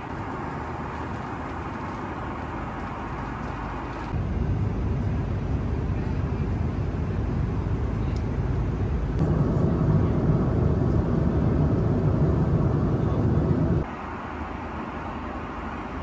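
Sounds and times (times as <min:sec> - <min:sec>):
airplane cabin rumble: 0:00.0 - 0:13.9.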